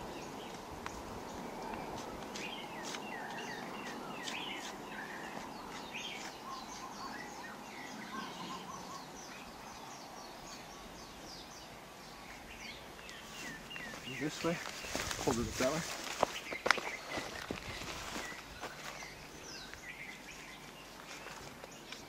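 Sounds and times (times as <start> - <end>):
birds chirping and singing: 0.0 - 22.0
steady background hiss: 0.0 - 22.0.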